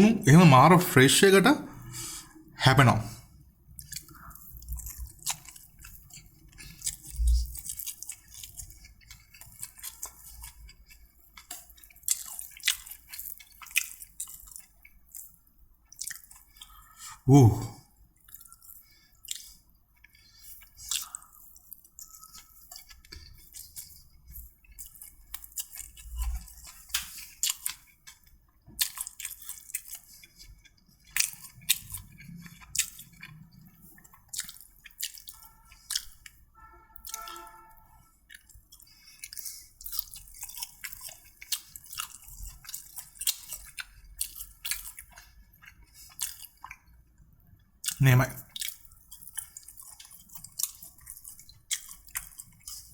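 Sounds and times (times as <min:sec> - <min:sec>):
chewing and crunching: 0:03.2 - 0:52.9.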